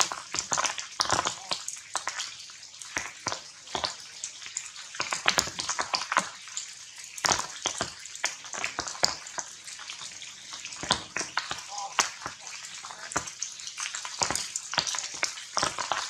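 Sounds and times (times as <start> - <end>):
rain dripping on leaves: 0.0 - 16.0.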